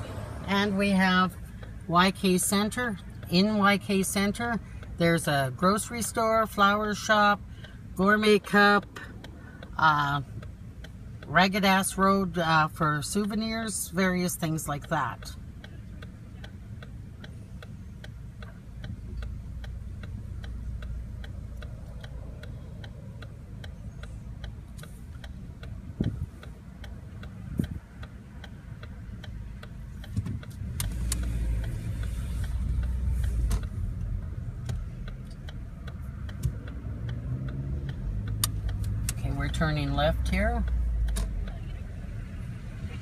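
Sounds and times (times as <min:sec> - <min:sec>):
car engine idling: 0:00.0 - 0:43.0
turn signal clicking: 0:00.0 - 0:43.0.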